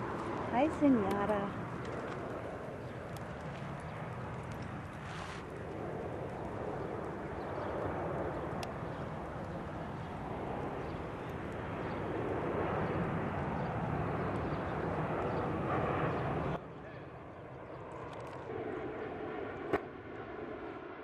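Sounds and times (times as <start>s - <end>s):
aircraft rumble overhead: 0.0s - 21.0s.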